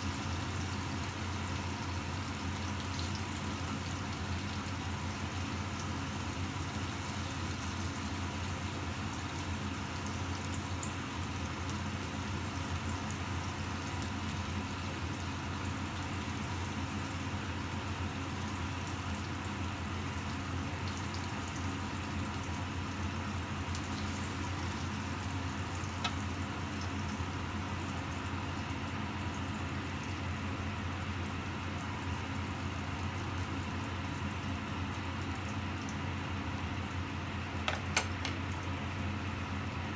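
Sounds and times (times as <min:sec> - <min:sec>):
chicken sizzling in a frying pan: 0:00.0 - 0:39.9
constant low hum: 0:00.0 - 0:39.9.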